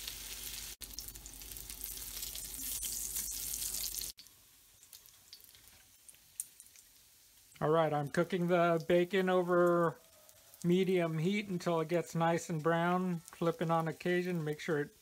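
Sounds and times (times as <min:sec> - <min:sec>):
bacon sizzling: 0:00.0 - 0:15.0.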